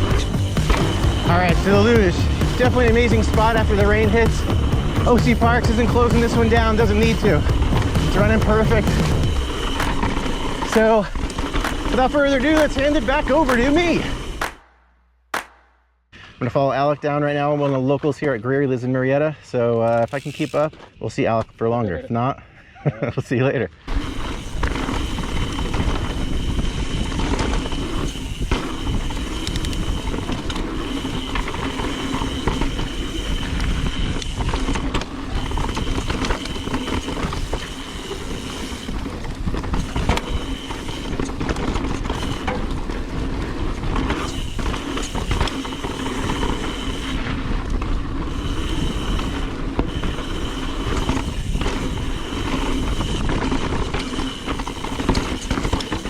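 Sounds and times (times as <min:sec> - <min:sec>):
bike chassis rattling: 0:00.0 - 0:14.6, 0:19.7 - 0:20.8, 0:23.9 - 0:56.0
bike freehub buzz: 0:00.0 - 0:14.6, 0:19.9 - 0:21.0, 0:23.8 - 0:56.0
wind and tyre noise: 0:00.0 - 0:14.6, 0:23.8 - 0:56.0.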